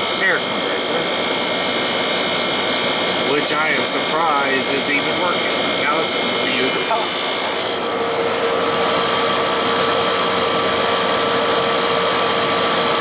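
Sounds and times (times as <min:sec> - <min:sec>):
air conditioner whirring: 0:00.0 - 0:13.0
compressor hum: 0:00.0 - 0:13.0.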